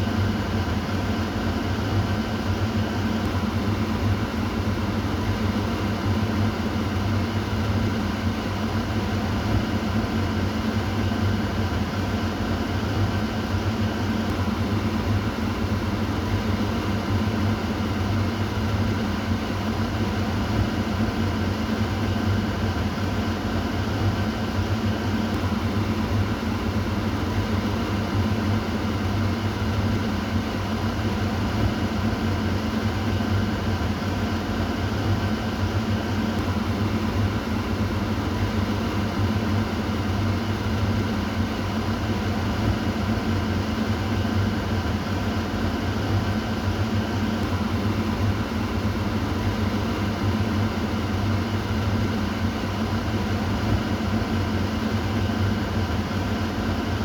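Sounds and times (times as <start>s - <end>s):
kitchen exhaust fan running: 0.0s - 57.0s.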